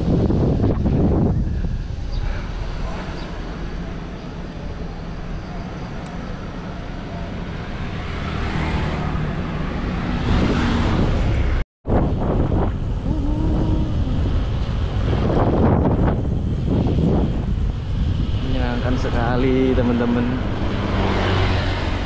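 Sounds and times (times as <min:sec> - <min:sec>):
traffic passing: 0:00.0 - 0:22.0
wind rushing on microphone: 0:00.0 - 0:22.0.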